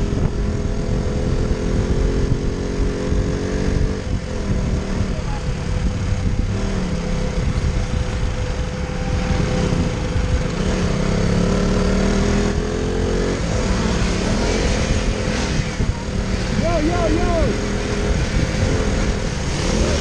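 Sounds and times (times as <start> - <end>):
motorcycle engine revving: 0.0 - 20.0
wind rumble on microphone: 0.0 - 20.0.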